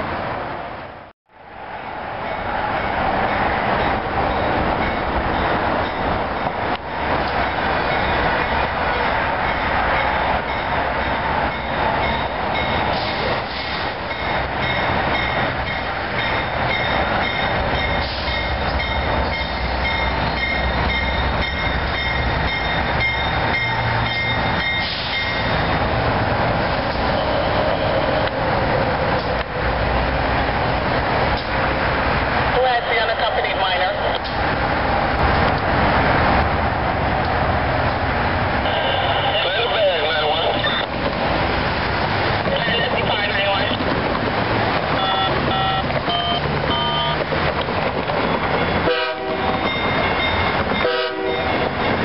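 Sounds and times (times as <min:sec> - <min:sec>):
train engine and wheels rumbling: 0:00.0 - 0:52.0.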